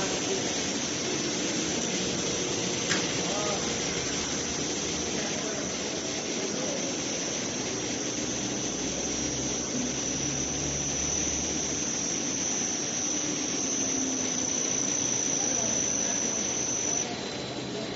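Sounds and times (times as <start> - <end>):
machinery whirring and whining: 0.0 - 17.9.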